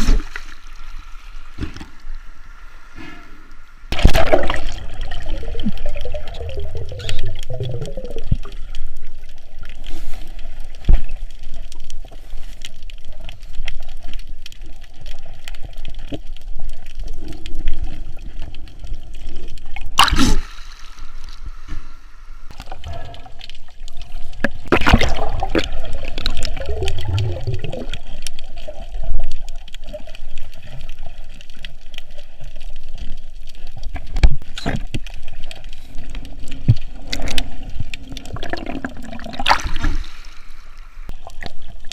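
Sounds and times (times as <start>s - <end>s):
water sloshing and gurgling: 0.0s - 41.9s
water splashing: 3.9s - 13.6s, 14.6s - 41.9s.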